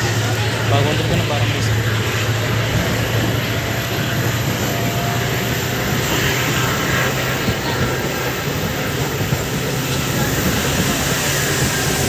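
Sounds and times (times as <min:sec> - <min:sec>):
diesel locomotive engine hum: 0:00.0 - 0:12.0
train wheels rumbling: 0:00.0 - 0:12.0
wind: 0:00.0 - 0:12.0.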